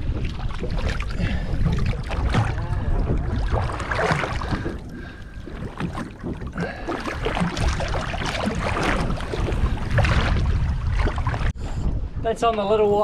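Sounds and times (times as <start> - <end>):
water splashing against boat hull: 0.0 - 11.6
wind buffeting microphone: 0.0 - 13.0.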